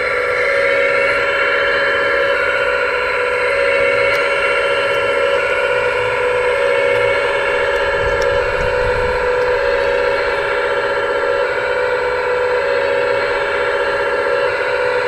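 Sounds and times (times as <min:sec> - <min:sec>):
pump and motors whining: 0:00.0 - 0:15.0.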